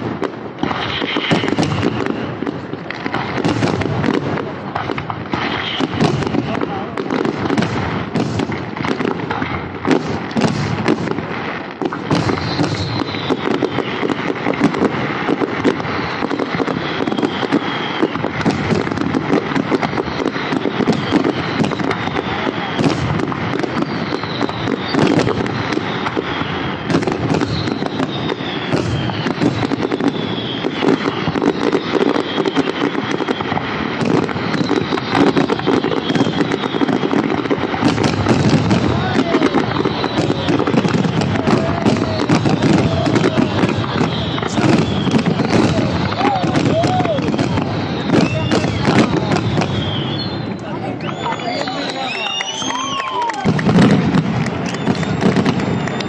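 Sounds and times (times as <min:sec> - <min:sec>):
falling firework whistles: 0:00.0 - 0:04.2, 0:04.8 - 0:56.0
firework bursts and crackling: 0:00.0 - 0:56.0.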